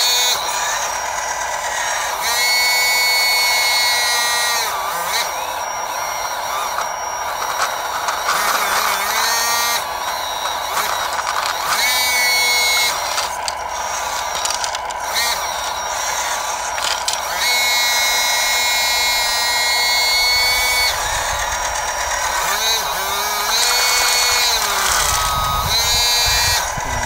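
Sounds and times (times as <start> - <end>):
electric hydraulic pump whining: 0.0 - 27.0
higher-pitched motor whines: 0.0 - 27.0.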